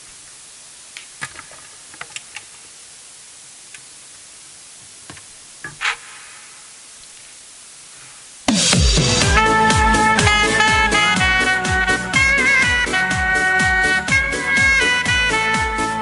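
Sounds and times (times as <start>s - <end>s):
room noise hiss: 0.0s - 16.0s.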